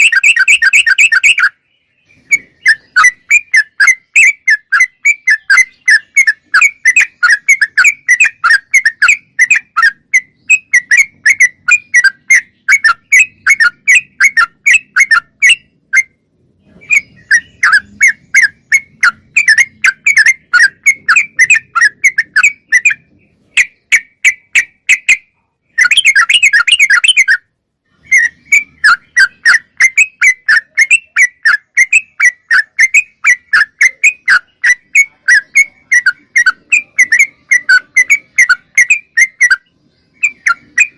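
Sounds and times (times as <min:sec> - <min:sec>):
bird whistled calls: 0:00.0 - 0:40.9.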